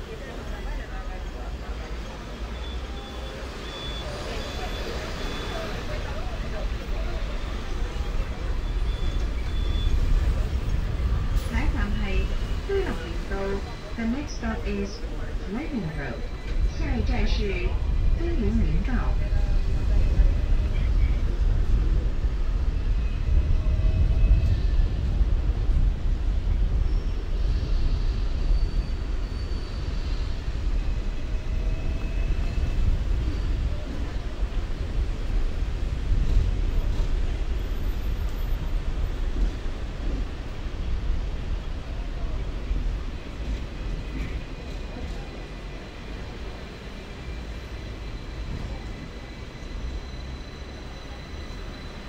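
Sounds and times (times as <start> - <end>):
tram rumbling on rails: 0.0 - 52.0.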